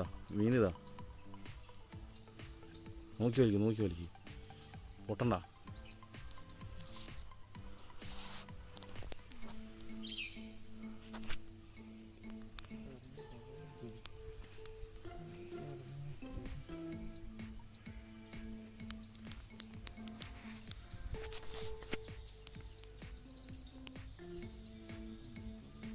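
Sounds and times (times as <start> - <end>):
faint music: 0.0 - 25.9
insects chirring: 0.0 - 25.9.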